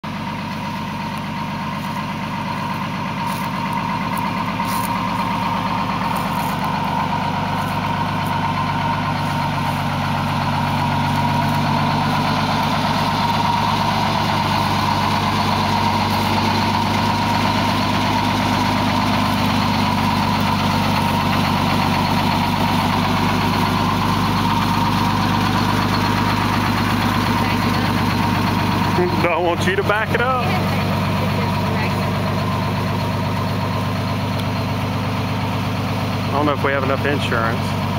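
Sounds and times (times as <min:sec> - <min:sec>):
fire engine idling: 0:00.0 - 0:37.9.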